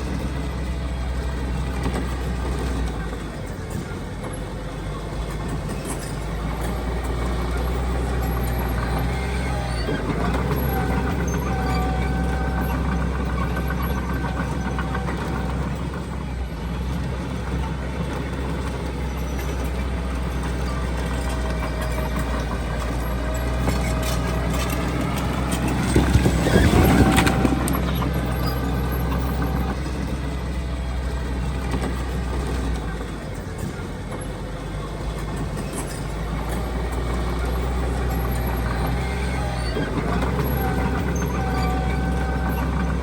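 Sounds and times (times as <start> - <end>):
diesel machinery running: 0.0 - 43.0.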